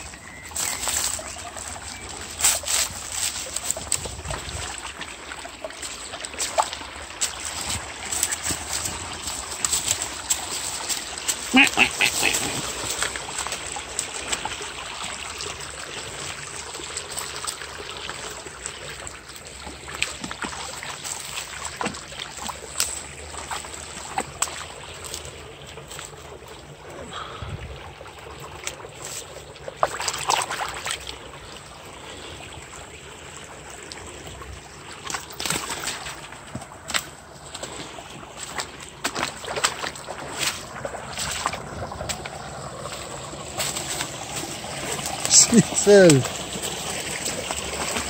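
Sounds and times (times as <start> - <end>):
brook trickling over stones: 0.0 - 48.0.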